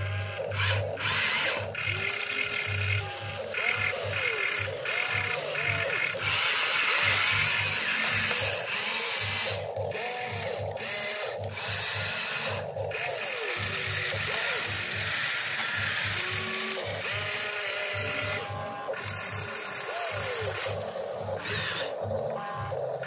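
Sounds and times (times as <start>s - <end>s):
toy excavator motors whining: 0.0s - 23.0s.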